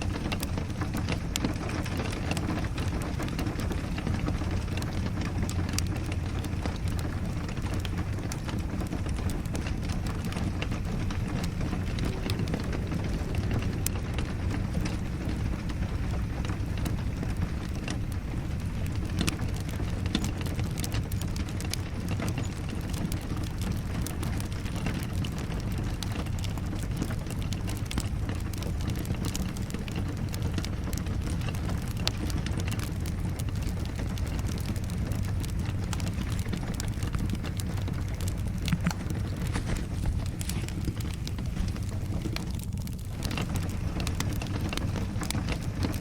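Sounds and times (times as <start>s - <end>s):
rain rumble: 0.0s - 46.0s
wood fire crackling: 0.0s - 46.0s.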